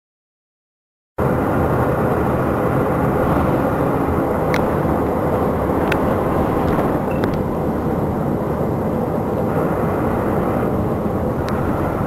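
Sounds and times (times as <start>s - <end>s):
bus engine and road rumble: 1.2s - 12.0s.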